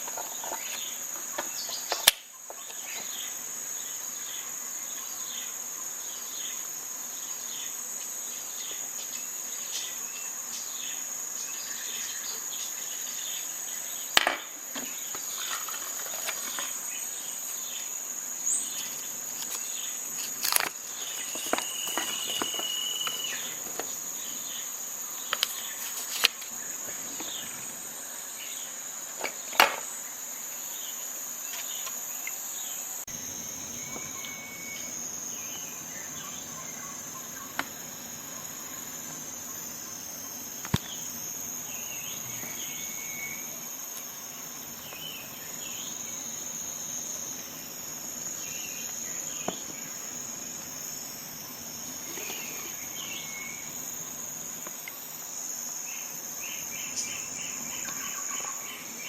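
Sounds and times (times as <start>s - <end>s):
insects chorus: 0.0s - 59.0s
short insect chirps: 0.0s - 59.0s.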